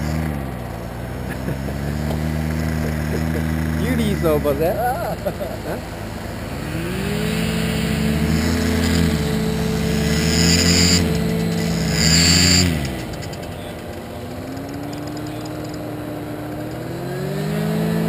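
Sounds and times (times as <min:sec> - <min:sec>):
paramotor engine and propeller: 0:00.0 - 0:18.0.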